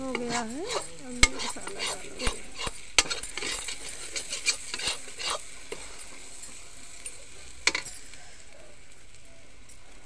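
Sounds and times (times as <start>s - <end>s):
metal spatula scraping a pan: 0.0s - 8.1s
faint oil sizzle: 0.0s - 10.0s.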